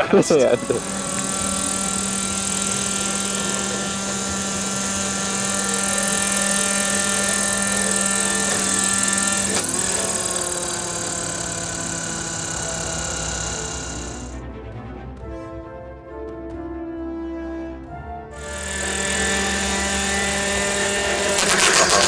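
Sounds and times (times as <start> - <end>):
model helicopter engine running: 0.0 - 14.4, 18.4 - 22.0.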